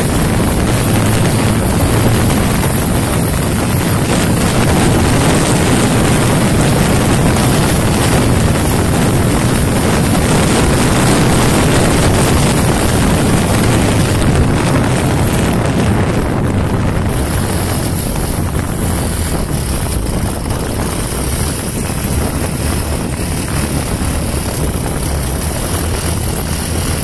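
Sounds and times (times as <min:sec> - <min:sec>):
motorcycle engine at high revs: 0:00.0 - 0:27.0
wind rushing over microphone: 0:00.0 - 0:27.0.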